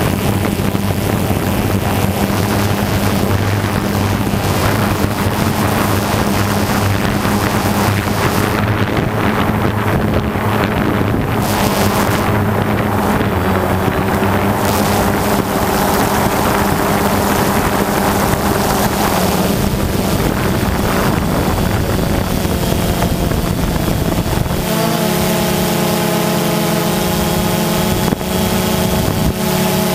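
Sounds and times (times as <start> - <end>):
model aircraft motor and propeller: 0.0 - 29.9
wind rushing over microphone: 0.0 - 29.9.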